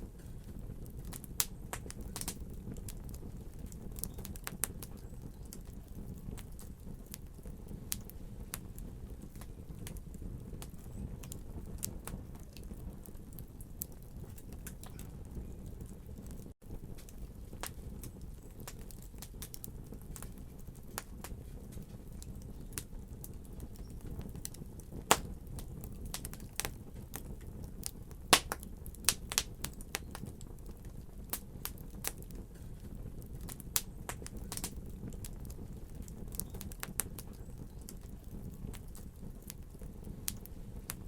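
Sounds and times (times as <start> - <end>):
fireplace fire crackling: 0.0 - 41.0.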